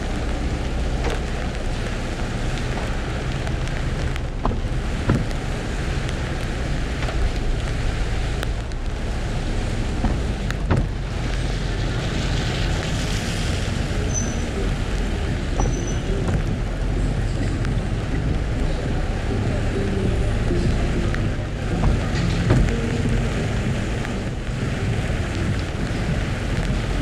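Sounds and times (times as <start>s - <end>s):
rain hiss: 0.0s - 27.0s
road and engine rumble: 0.0s - 27.0s.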